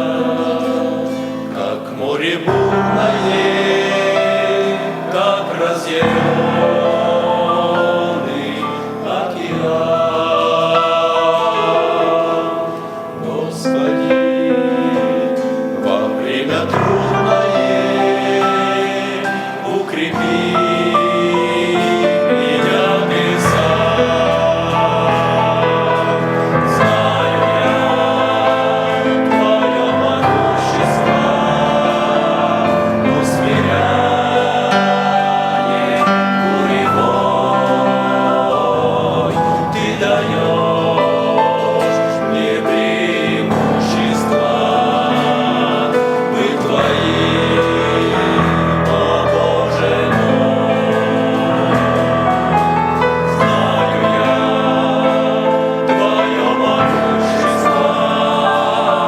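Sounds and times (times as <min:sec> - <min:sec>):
men singing a hymn in harmony: 0:00.0 - 0:59.0.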